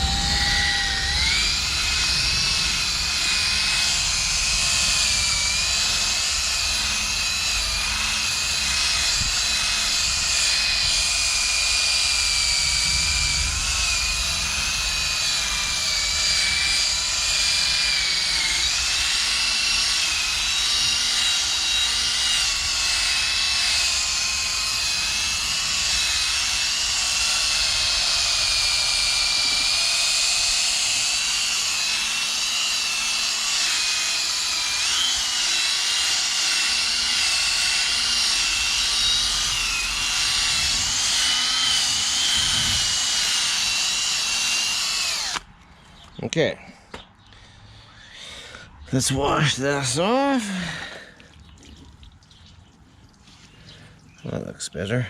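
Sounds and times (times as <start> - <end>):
power drill sanding whine: 0.0 - 45.5.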